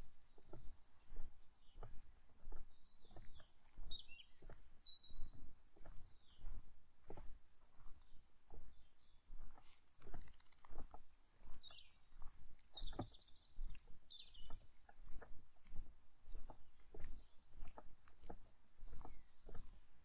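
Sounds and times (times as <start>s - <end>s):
footsteps on path: 0.0s - 20.0s
songbirds chirping: 0.0s - 20.0s.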